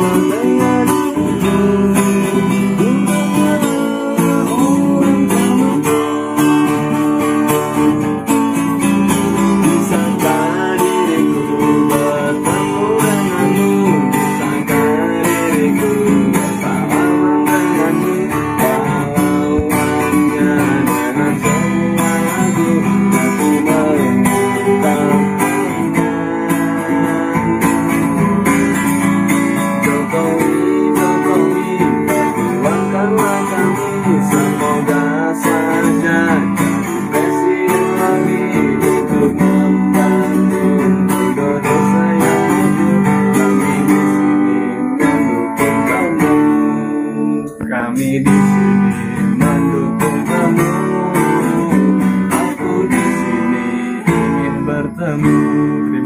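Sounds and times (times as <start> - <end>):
person singing: 0.0 - 56.0
strummed acoustic guitar: 0.0 - 56.0.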